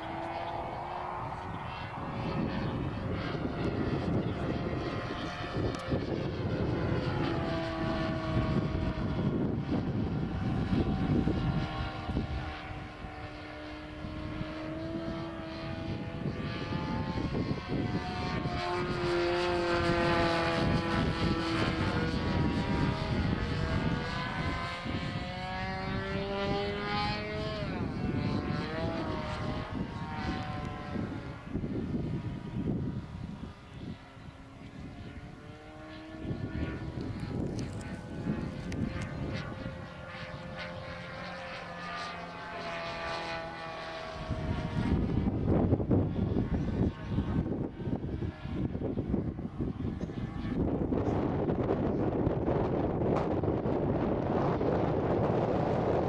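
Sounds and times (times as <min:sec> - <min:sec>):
model plane engine flying overhead: 0:00.0 - 0:56.0
wind rumble on microphone: 0:00.0 - 0:56.0.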